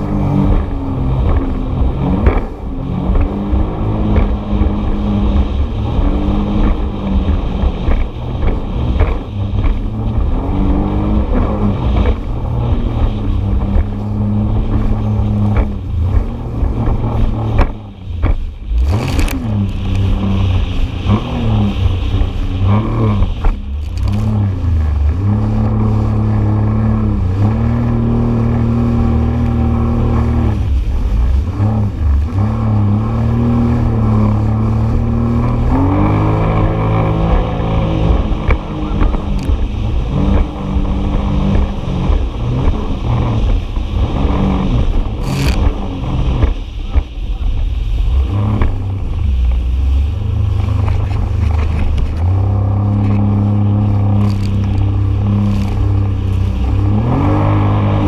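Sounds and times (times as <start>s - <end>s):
jet ski engine revving: 0.0s - 58.0s
water rushing against hull: 0.0s - 58.0s.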